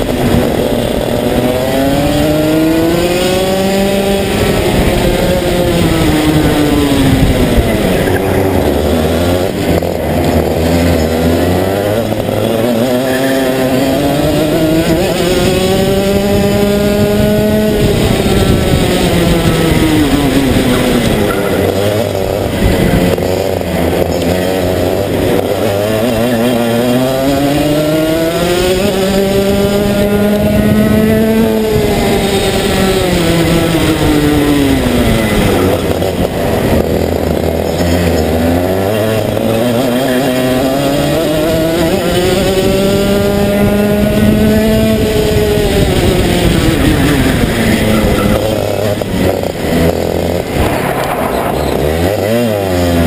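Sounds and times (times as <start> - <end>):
racing kart engine: 0.0 - 53.0.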